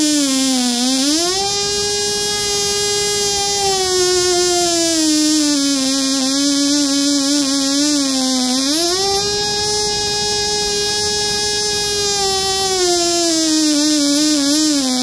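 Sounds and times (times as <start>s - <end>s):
miniature engine high-pitched whine: 0.0s - 15.0s.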